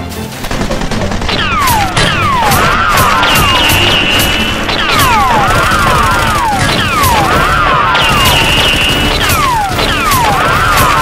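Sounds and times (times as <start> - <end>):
rapid gunshots: 0.4 - 11.0.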